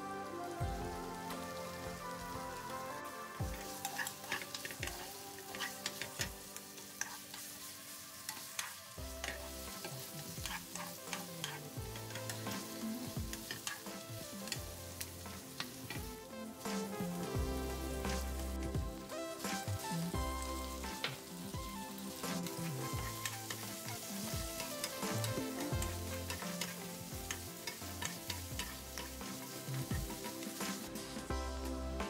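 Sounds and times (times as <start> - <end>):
food sizzling in frying pan: 0.0 - 32.0
light background music: 0.0 - 32.0.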